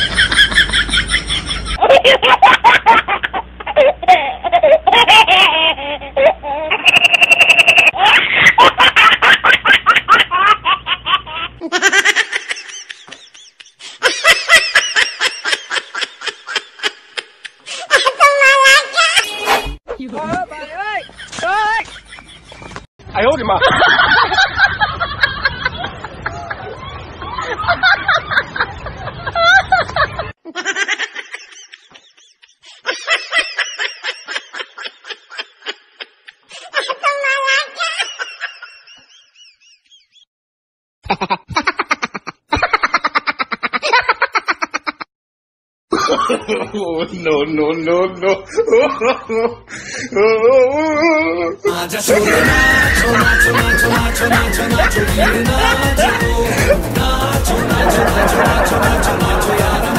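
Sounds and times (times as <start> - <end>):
high-pitched laughter: 0.0 - 19.7, 23.7 - 40.2, 41.1 - 45.1, 48.4 - 59.9.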